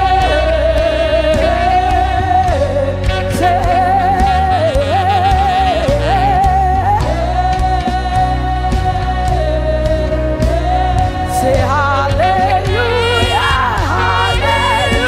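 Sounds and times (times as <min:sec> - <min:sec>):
bass: 0:00.0 - 0:15.0
keyboard chords: 0:00.0 - 0:15.0
person singing with vibrato: 0:00.0 - 0:15.0.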